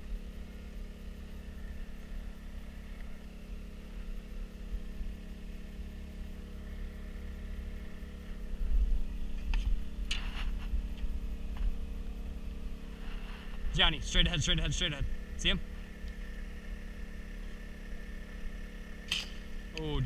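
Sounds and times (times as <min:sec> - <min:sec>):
boat motor hum: 0:00.0 - 0:20.0
low rumble: 0:00.0 - 0:20.0.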